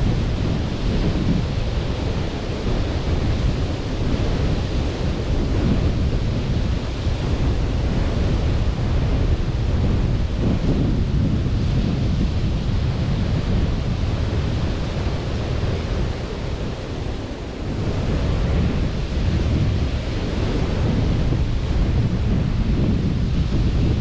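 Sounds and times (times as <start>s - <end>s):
surf washing onto beach: 0.0s - 24.0s
wind rumbling on microphone: 0.0s - 24.0s.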